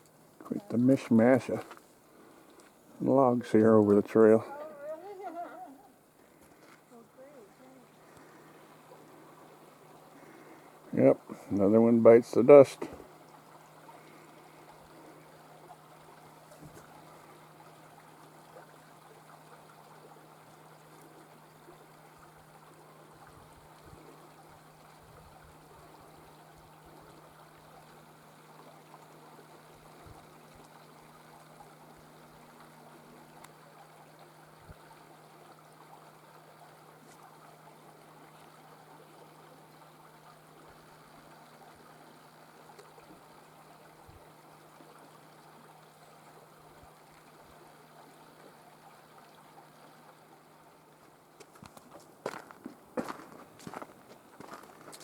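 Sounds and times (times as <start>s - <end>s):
low steady hum: 0.0s - 55.0s
running water: 0.0s - 55.0s.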